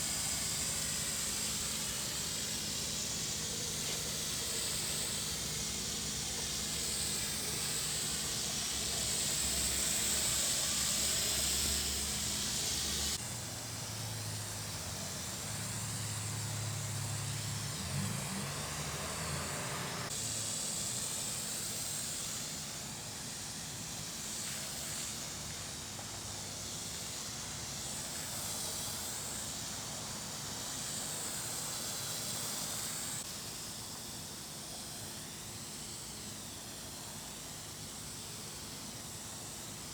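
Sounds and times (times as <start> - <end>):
garden sprayer hissing: 0.0 - 39.9.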